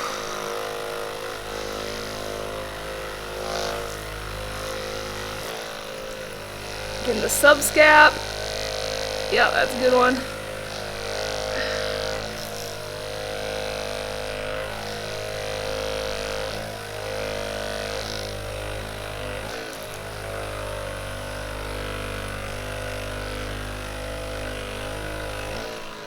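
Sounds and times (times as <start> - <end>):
massage gun motor humming: 0.0 - 26.0.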